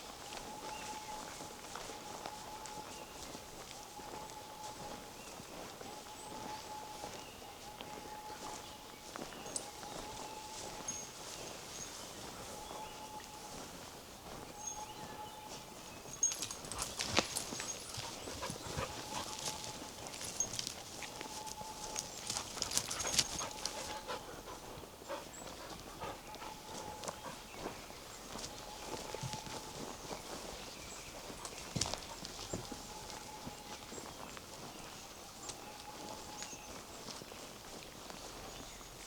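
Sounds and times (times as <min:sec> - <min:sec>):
footsteps crunching on forest path: 0:00.0 - 0:39.0.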